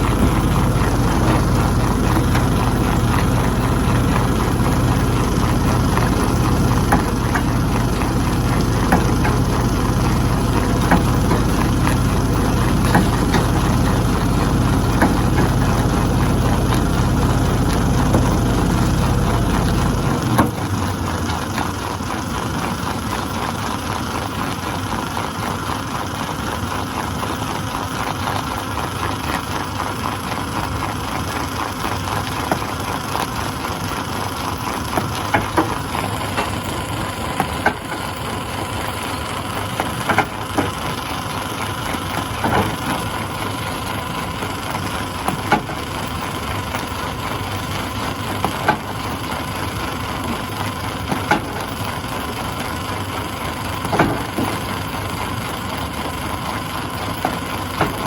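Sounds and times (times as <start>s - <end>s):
stone crusher running: 0.0s - 58.0s.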